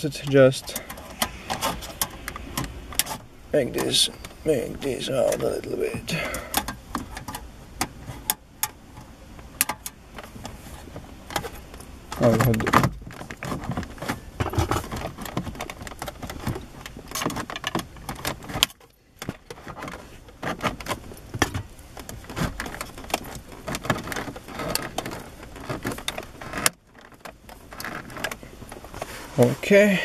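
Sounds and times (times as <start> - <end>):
plastic and metal clicking rattling: 0.0 - 29.1.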